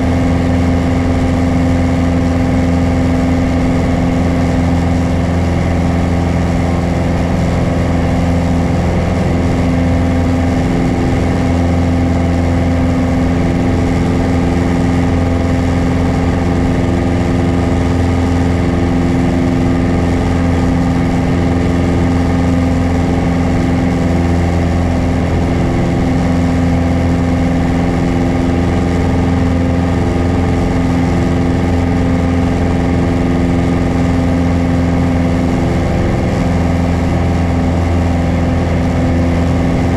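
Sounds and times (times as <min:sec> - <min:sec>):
propeller aircraft engine in flight: 0:00.0 - 0:39.9.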